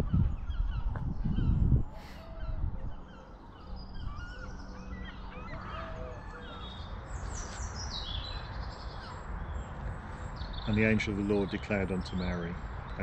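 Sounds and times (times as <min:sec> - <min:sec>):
wild birds chirping and whistling: 0:00.0 - 0:13.0.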